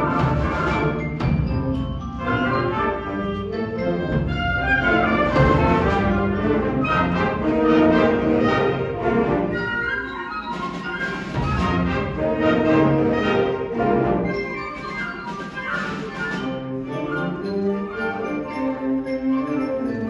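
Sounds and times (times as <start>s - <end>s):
wind band playing: 0.0s - 20.0s.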